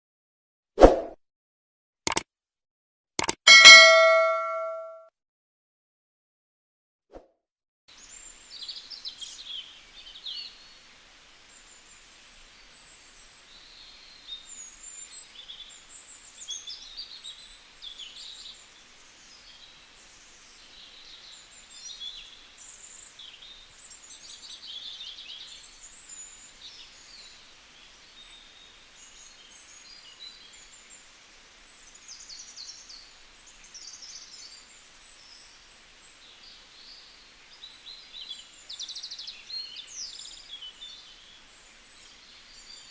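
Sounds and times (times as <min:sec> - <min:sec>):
steady background hiss: 0:07.9 - 0:42.9.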